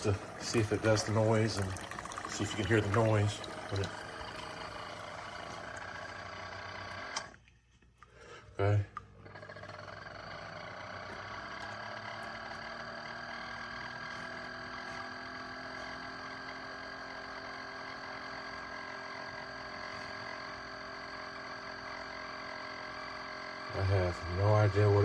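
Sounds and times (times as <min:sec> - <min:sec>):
coffee maker humming and whining: 0:00.0 - 0:07.4, 0:08.6 - 0:25.0.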